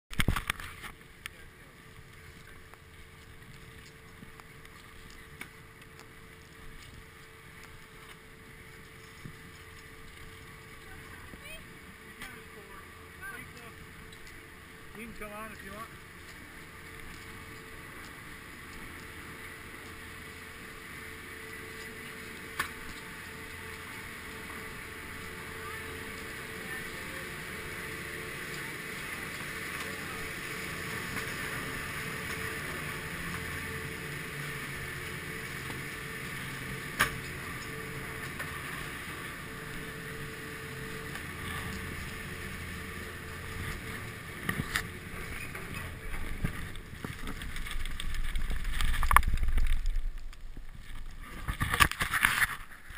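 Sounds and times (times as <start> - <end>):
chairlift machinery humming: 0.2 - 52.9.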